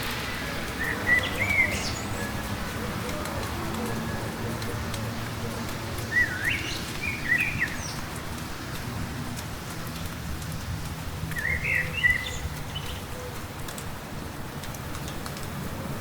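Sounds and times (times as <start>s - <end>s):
light rain: 0.0s - 16.0s.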